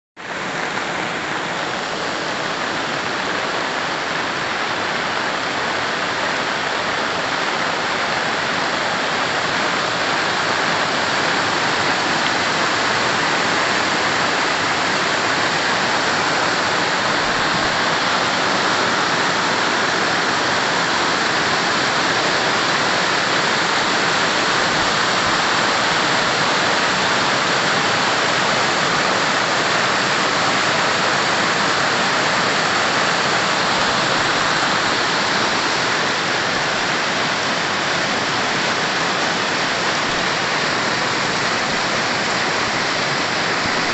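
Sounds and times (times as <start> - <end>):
floodwater rushing: 0.2 - 43.9.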